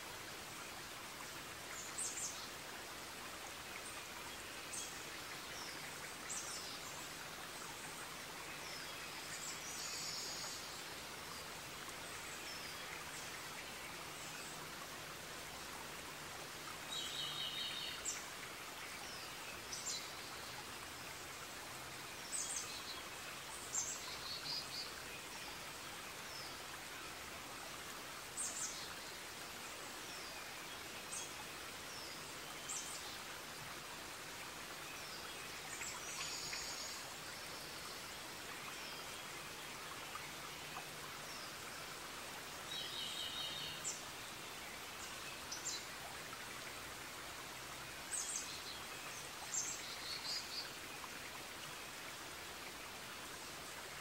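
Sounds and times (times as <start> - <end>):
steady forest hiss: 0.0 - 54.0.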